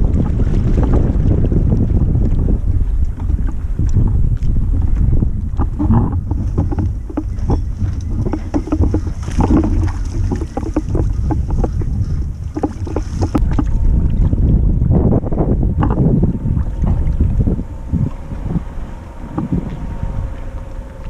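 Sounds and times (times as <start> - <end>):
paddle splashing in water: 0.0 - 21.0
wind rumbling over microphone: 0.0 - 21.0.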